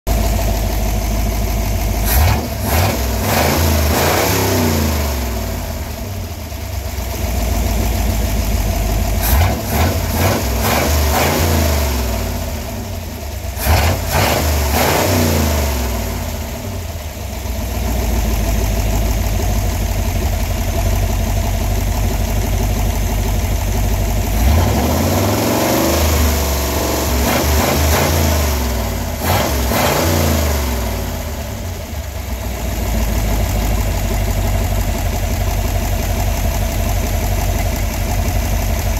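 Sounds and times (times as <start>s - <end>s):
car engine idling and revving: 0.1s - 38.9s.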